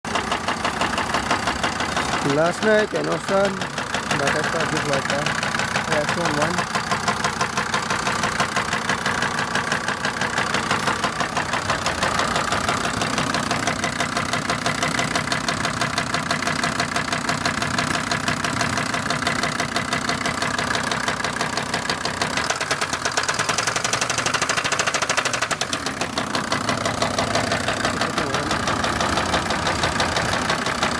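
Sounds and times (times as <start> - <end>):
engine running with rapid knock: 0.1 - 30.9.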